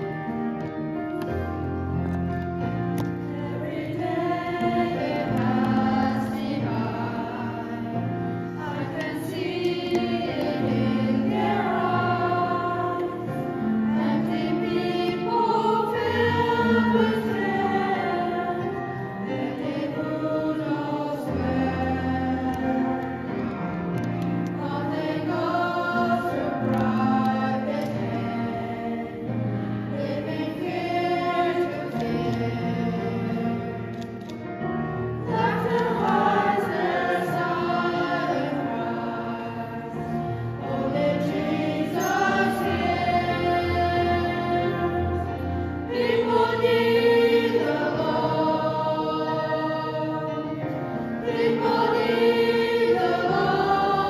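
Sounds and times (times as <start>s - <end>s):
choir singing gospel in harmony: 1.3s - 54.0s.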